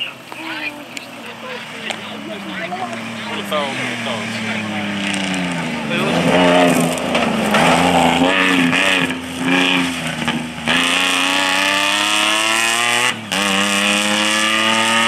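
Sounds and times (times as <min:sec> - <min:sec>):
pickup engine revving: 0:00.0 - 0:15.0.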